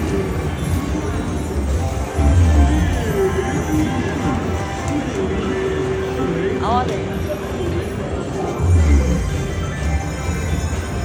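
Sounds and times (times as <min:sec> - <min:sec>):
slot machine electronic music: 0:00.0 - 0:06.2, 0:08.0 - 0:11.0
dense background noise: 0:00.0 - 0:11.0.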